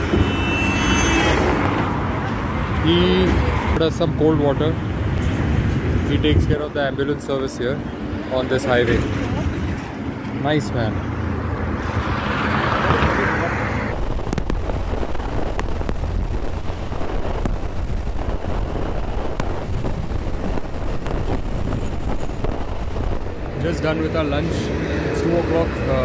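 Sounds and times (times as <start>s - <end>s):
engine and road rumble: 0.0s - 26.0s
wind rushing over microphone: 0.0s - 26.0s.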